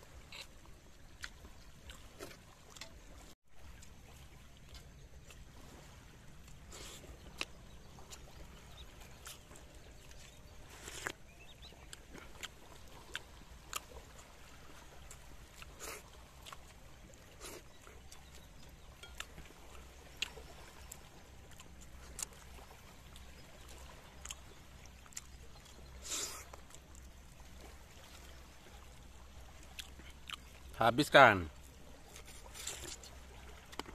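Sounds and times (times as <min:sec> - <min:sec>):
lapping water: 0:00.0 - 0:33.9
low rumble of wind: 0:00.0 - 0:33.9.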